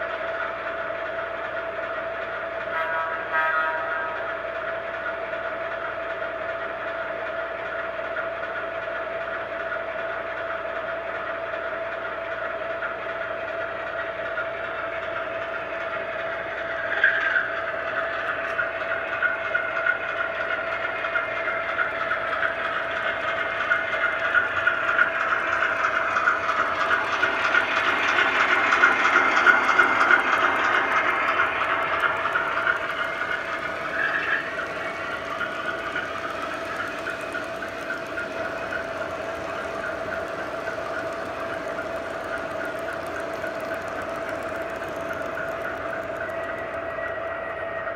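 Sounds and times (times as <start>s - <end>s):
model train diesel engine sound: 0.0s - 47.9s
model train wheel noise: 0.0s - 47.9s.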